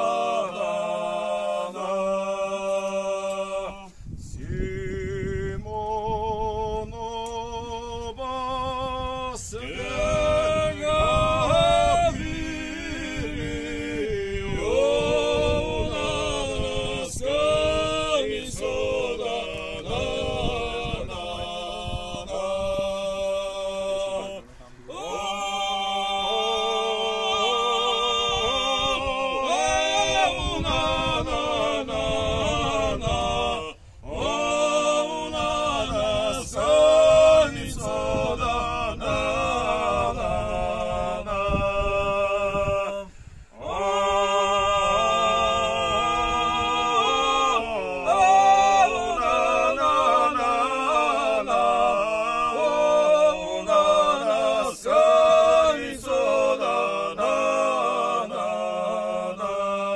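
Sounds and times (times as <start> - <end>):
men singing in close harmony: 0.0 - 59.9.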